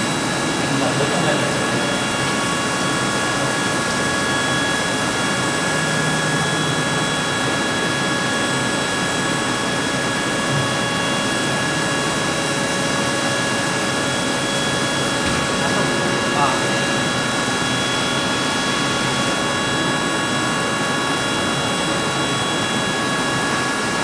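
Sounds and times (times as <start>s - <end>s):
machine high whines: 0.0s - 24.0s.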